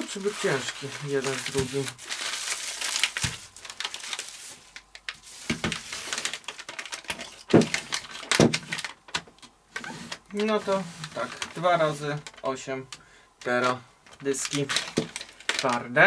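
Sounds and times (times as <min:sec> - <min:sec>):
bubble wrap and bags crinkling: 0:00.0 - 0:16.0.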